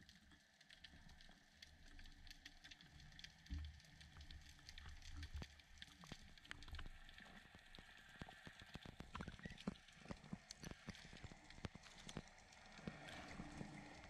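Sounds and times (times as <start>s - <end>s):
underwater clicking and crackling: 0.0s - 14.0s.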